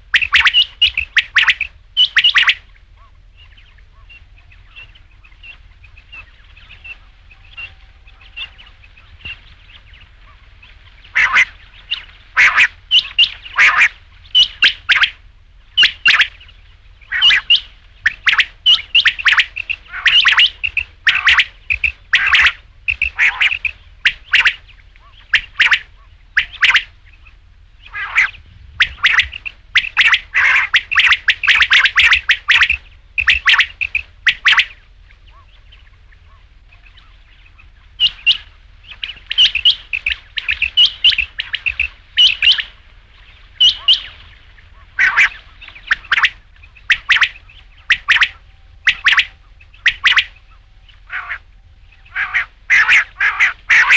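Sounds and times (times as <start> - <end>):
quail calling: 0.0 - 53.9.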